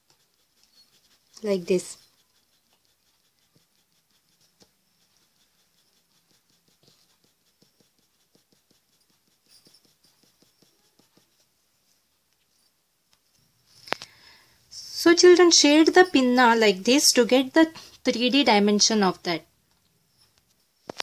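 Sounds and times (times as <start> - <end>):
pencil scratching on paper: 0.0 - 21.0.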